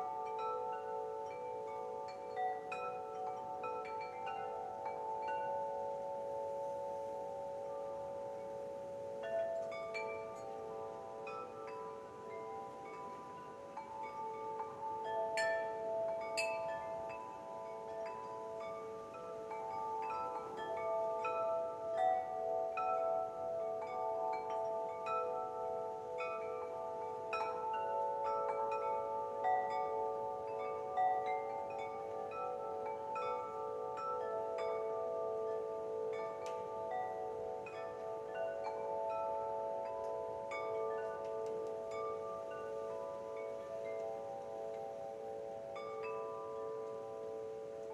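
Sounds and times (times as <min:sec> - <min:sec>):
wind chimes ringing: 0:00.0 - 0:47.9.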